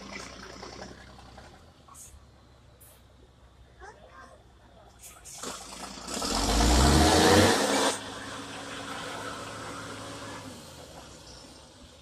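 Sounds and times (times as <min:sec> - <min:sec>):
truck engine under load: 0:00.0 - 0:12.0.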